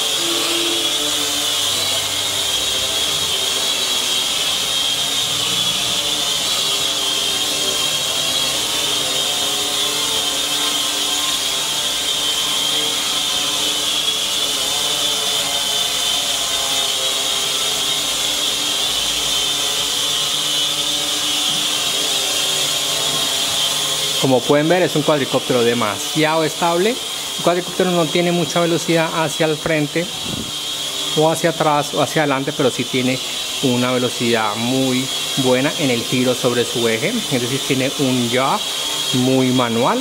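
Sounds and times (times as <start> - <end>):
drone propellers whining: 0.0 - 40.0.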